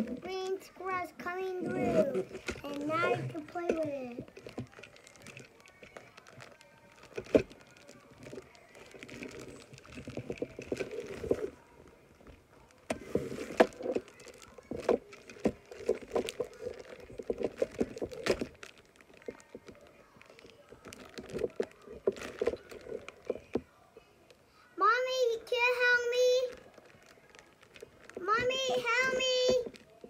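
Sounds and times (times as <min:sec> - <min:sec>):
plastic wrapping crinkling: 0:00.0 - 0:24.4, 0:25.8 - 0:30.0.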